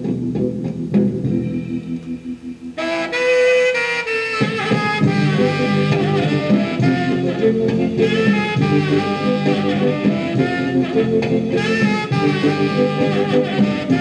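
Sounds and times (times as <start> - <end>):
swing jazz from record player: 0.0 - 14.0.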